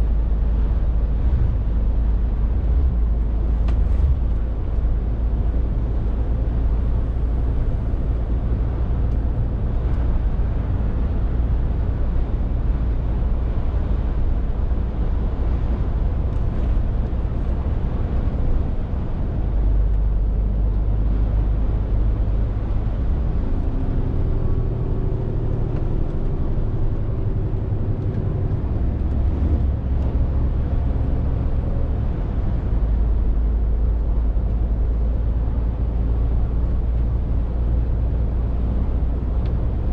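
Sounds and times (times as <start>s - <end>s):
lorry diesel engine droning: 0.0s - 39.9s
road and tyre noise: 0.0s - 39.9s.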